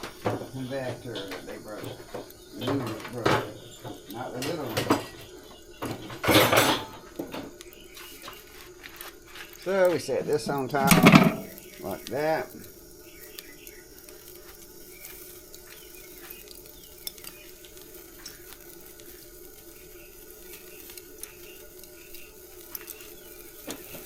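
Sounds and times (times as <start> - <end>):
charcoal fire crackling and popping: 0.0 - 24.0.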